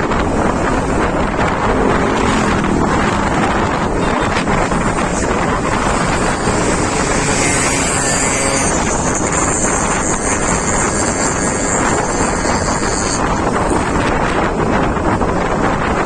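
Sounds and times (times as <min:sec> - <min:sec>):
road and engine noise: 0:00.0 - 0:16.0
wind buffeting microphone: 0:00.0 - 0:16.0.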